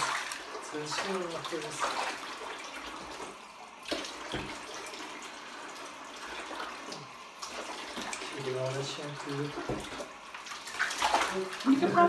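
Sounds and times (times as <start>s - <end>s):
light water splashing: 0.0s - 12.0s
water running into bathtub: 0.0s - 12.0s.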